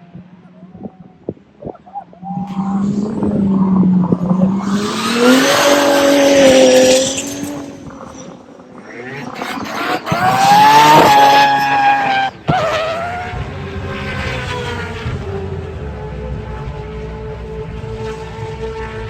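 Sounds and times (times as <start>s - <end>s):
second racing car engine: 1.6s - 19.0s
racing car engine accelerating: 2.1s - 19.0s.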